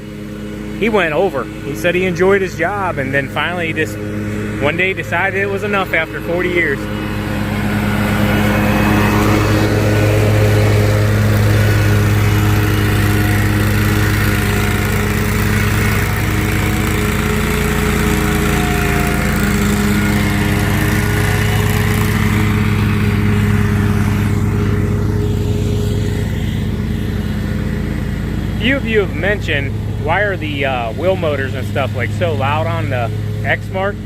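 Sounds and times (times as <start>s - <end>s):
mower engine drone: 0.0s - 34.0s
wheel motors humming: 0.0s - 34.0s.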